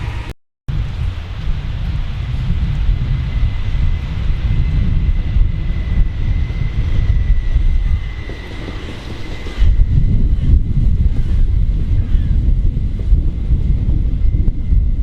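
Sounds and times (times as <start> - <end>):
train high whine: 0.0 - 15.0
train low rumble: 0.0 - 15.0.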